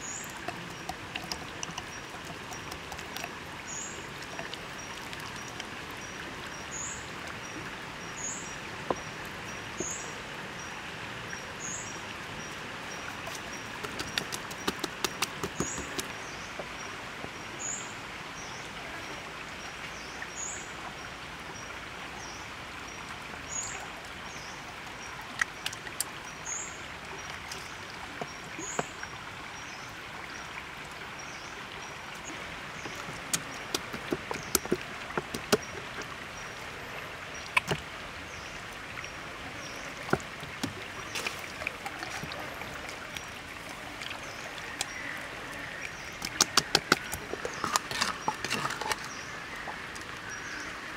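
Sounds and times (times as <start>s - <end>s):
steady outdoor hiss: 0.0s - 50.9s.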